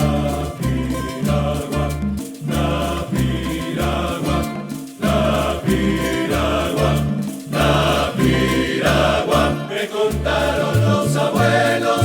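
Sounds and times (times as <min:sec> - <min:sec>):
string ensemble playing cumbia: 0:00.0 - 0:12.0.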